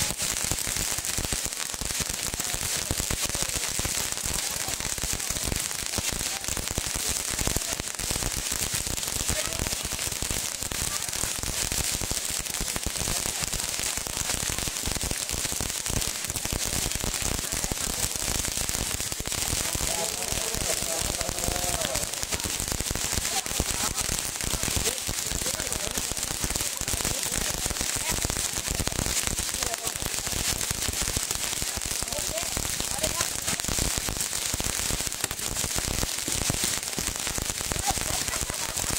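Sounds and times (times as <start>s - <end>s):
fireworks crackling: 0.0s - 38.9s
hiss of sparks: 0.0s - 38.9s.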